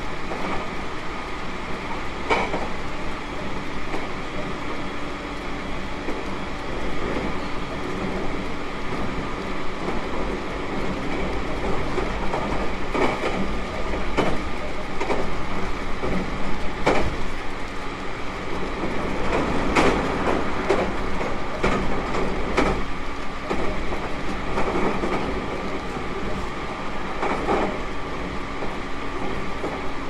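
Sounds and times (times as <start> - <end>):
train wheels rumbling on rail: 0.0 - 30.0
wheels clacking over rail joints: 1.7 - 30.0.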